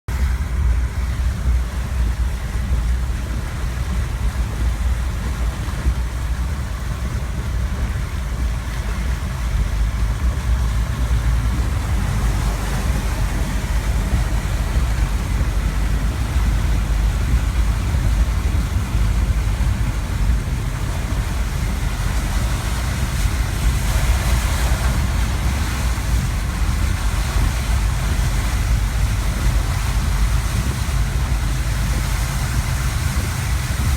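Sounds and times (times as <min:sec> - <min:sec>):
vehicle rumble: 0:00.1 - 0:33.9
water hissing: 0:00.8 - 0:33.9.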